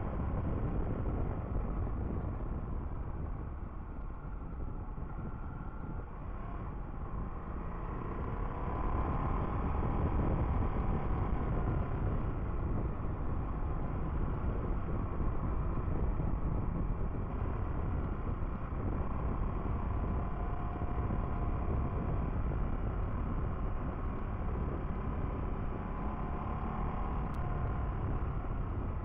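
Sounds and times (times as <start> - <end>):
wind rushing on microphone: 0.0 - 29.0
motorcycle engine running: 0.1 - 29.0.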